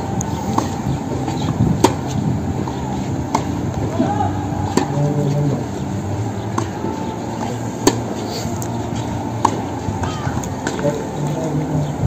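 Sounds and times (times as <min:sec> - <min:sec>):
tennis ball struck by rackets: 0:00.2 - 0:05.8, 0:06.4 - 0:11.5.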